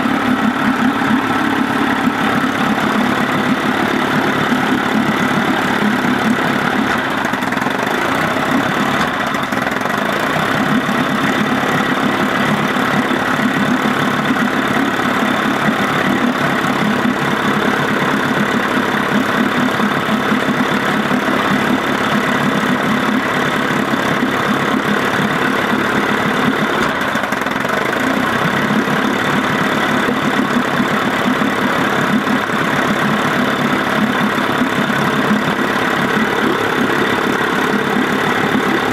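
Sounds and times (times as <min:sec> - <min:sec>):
outboard motor idling: 0:00.0 - 0:38.9.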